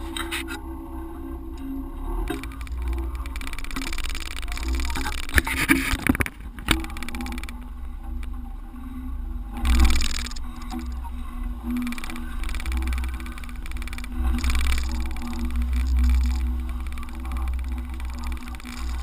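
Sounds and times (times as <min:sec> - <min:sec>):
off-road vehicle engine running: 0:00.0 - 0:19.0.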